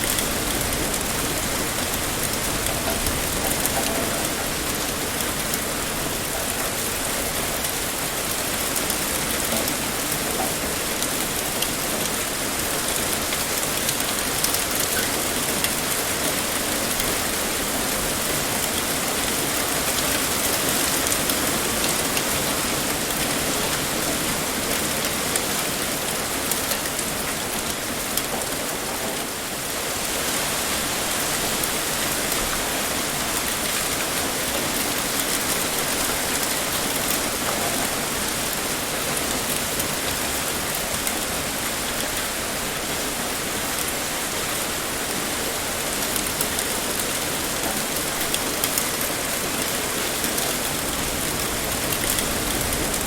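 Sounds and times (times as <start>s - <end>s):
heavy rain pouring: 0.0s - 53.0s
raindrops pattering on a surface: 0.0s - 53.0s.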